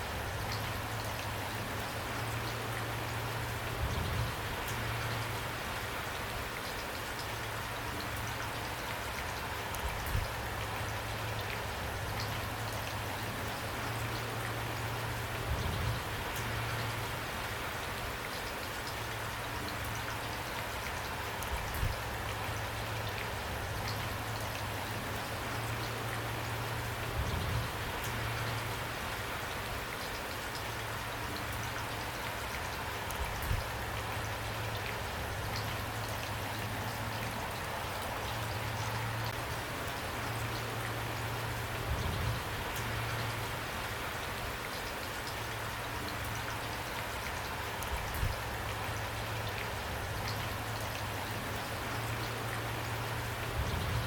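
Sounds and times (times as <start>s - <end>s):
rain patter: 0.0s - 54.0s.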